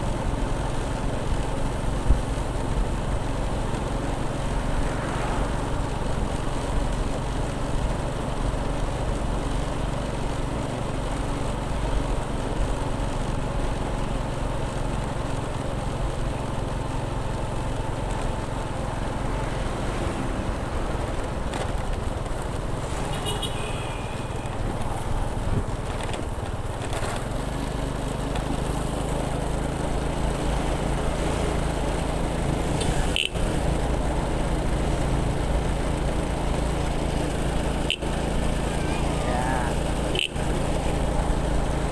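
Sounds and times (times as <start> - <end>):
motorcycle engine running: 0.0 - 41.9
road and wind noise: 0.0 - 41.9.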